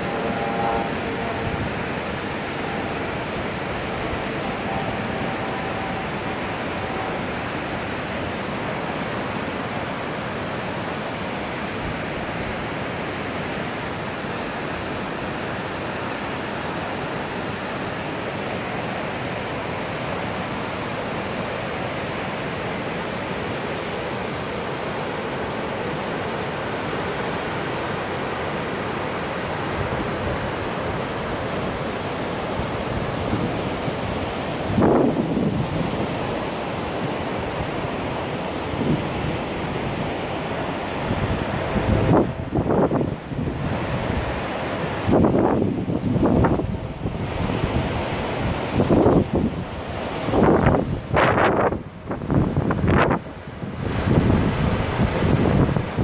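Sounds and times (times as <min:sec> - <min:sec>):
rapids rushing: 0:00.0 - 0:56.0.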